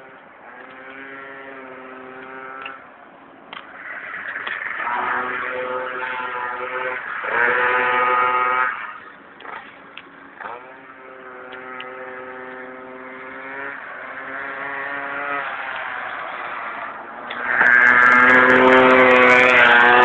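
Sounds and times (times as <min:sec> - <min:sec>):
minibike engines revving: 0:00.0 - 0:20.0.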